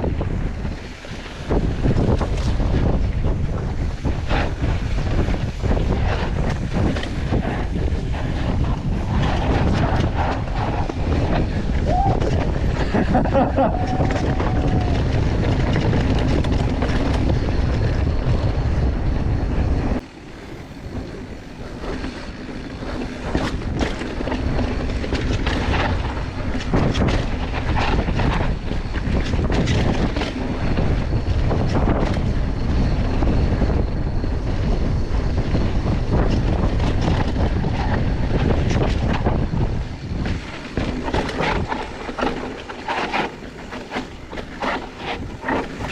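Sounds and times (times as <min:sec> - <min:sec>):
tyres rolling over rough ground: 0:00.0 - 0:45.9
wind buffeting microphone: 0:00.0 - 0:45.9.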